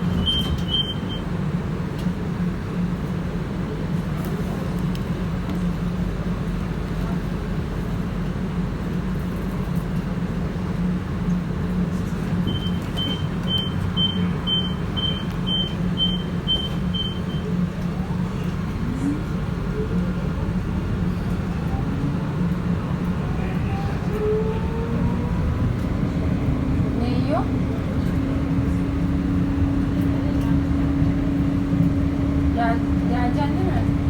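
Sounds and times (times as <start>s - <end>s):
tram running hum and rumble: 0.0s - 34.0s.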